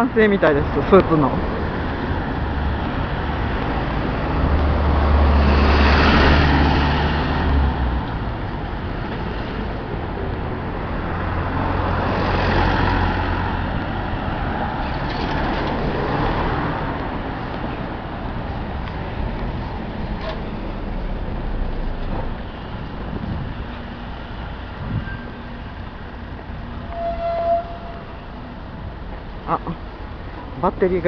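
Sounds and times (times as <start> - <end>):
cars and trucks passing: 0.0 - 31.0.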